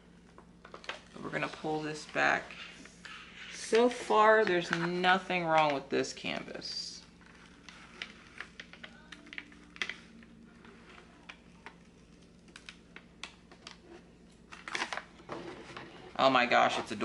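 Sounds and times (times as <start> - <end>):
paper and plastic film crackling: 0.2 - 17.0.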